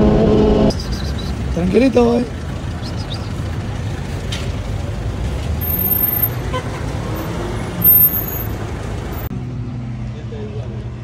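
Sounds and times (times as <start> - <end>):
road traffic rumble: 0.0 - 11.0
vehicle engines running: 0.0 - 11.0.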